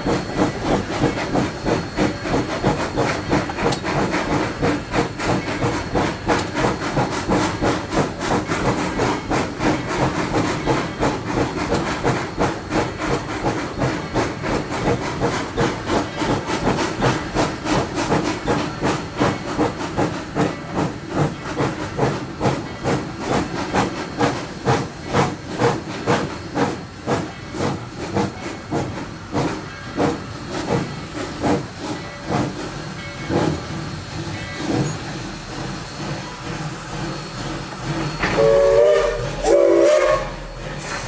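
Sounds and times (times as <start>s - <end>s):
steam hiss: 0.0s - 41.0s
steam locomotive exhaust chuffs: 0.0s - 41.0s.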